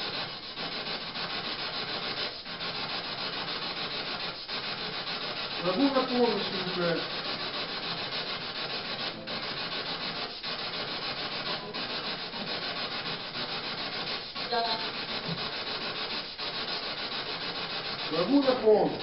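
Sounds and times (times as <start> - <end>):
loud static-like hiss: 0.0 - 19.0.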